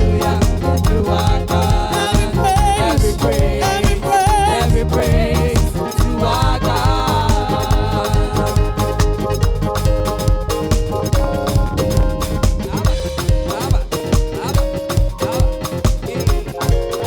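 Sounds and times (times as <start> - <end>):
upbeat praise music: 0.0 - 17.0.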